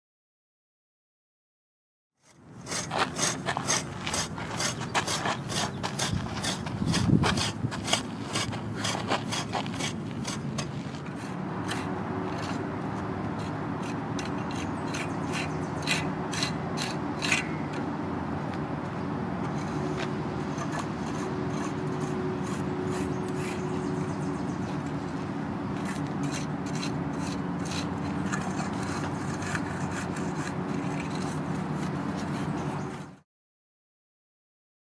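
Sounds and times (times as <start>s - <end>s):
rake scraping through dirt: 2.2s - 17.9s, 19.4s - 33.2s
steady low hum: 2.3s - 33.1s.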